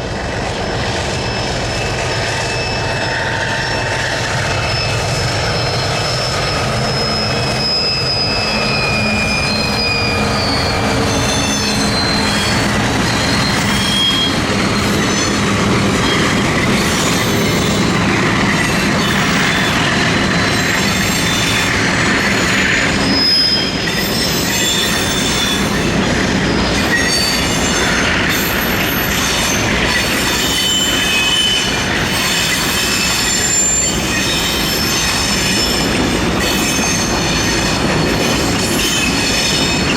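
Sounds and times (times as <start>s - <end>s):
train wagons rumbling past: 0.0s - 39.9s
wheel flanges squealing: 0.4s - 39.9s.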